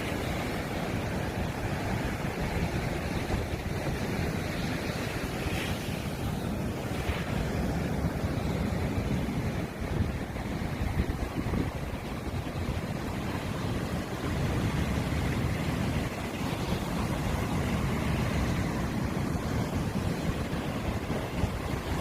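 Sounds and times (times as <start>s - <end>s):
sea surf breaking: 0.0s - 22.0s
wind buffeting microphone: 0.0s - 22.0s.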